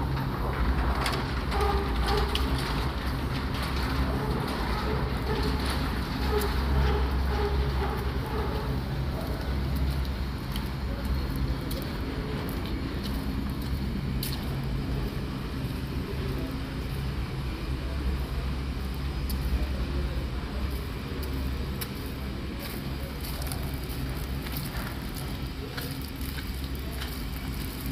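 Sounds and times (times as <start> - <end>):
ventilation fans rumbling: 0.0 - 27.9.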